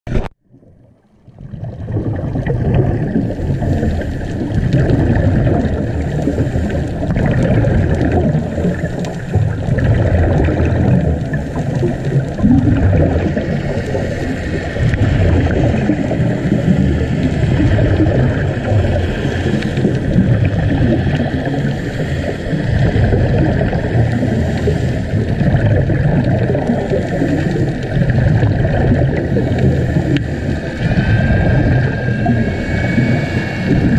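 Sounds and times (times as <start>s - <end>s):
muffled underwater rumble: 0.1s - 33.9s.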